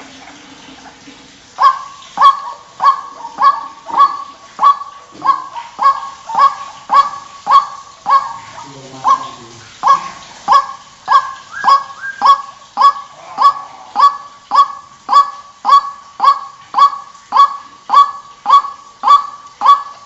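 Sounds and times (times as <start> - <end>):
bird calling harshly: 1.6 - 20.0.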